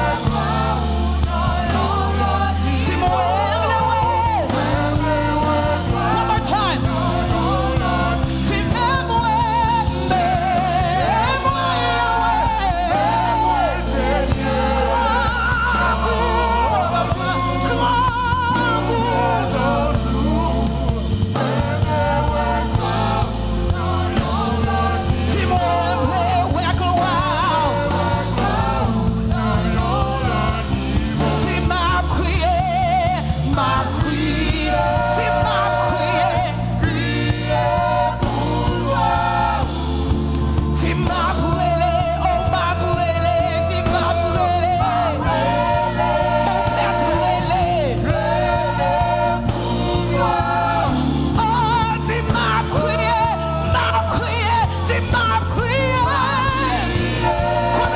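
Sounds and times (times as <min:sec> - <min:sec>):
live gospel band and singing: 0:00.0 - 0:57.9.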